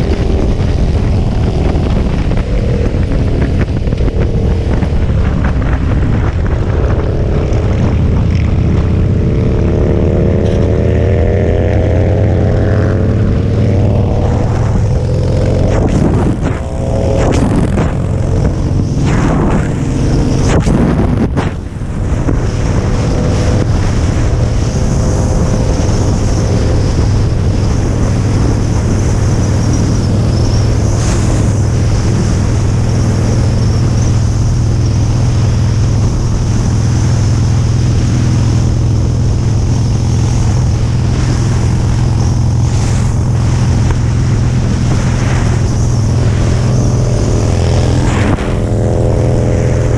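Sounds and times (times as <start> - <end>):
motorcycle engine accelerating: 0.0 - 49.9
second motorcycle alongside: 0.0 - 49.9
wind noise on microphone: 0.0 - 49.9.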